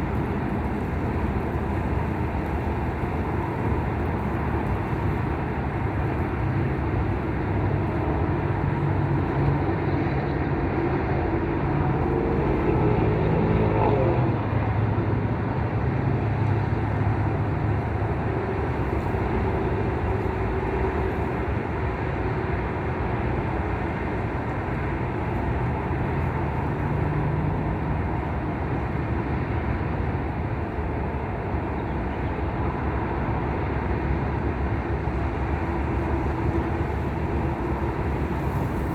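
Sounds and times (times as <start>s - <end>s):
vehicles passing on road: 0.0s - 38.9s.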